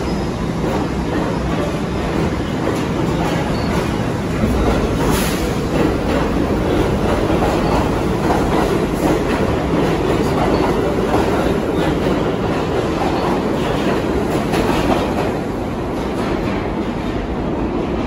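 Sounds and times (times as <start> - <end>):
subway train rumbling past: 0.0 - 18.0.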